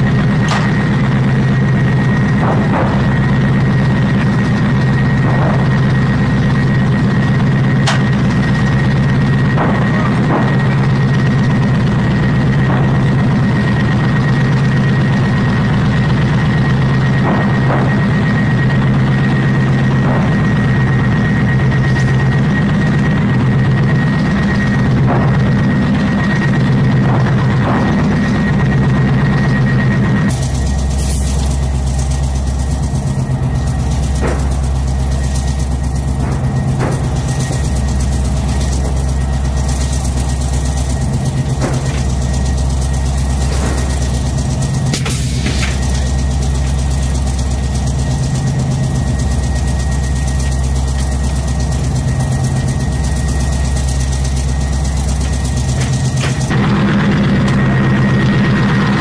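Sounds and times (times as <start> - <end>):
diesel engine idling: 0.0 - 59.0
high whine: 0.0 - 59.0.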